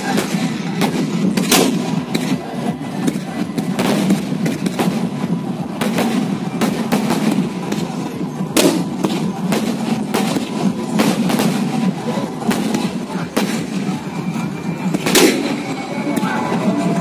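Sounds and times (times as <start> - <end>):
crowd din: 0.0 - 17.0
fireworks bangs and crackles: 0.0 - 17.0.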